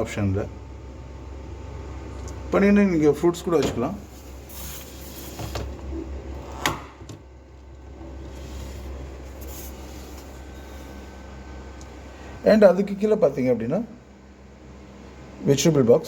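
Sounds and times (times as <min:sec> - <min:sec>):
refrigerator low hum: 0:00.0 - 0:16.0.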